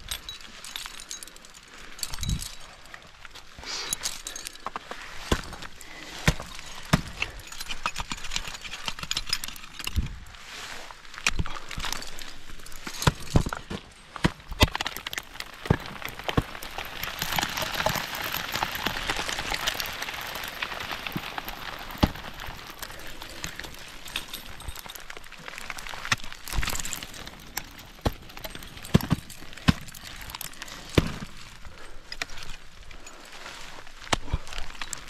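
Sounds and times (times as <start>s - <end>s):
ice axes striking ice: 3.9s - 10.0s, 11.2s - 33.3s, 34.0s - 35.0s.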